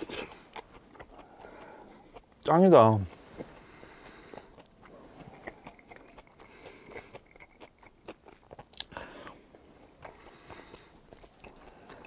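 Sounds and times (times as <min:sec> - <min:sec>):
chewing with wet mouth clicks: 0:00.0 - 0:12.0.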